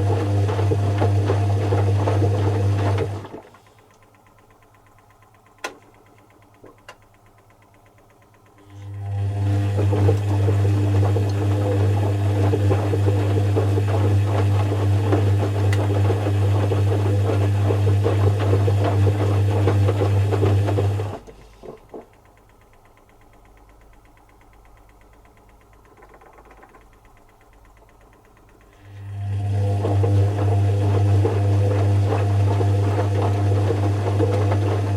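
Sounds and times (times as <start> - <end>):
washing machine humming: 0.0 - 34.9
washing machine clicks: 0.2 - 8.7, 9.4 - 28.9.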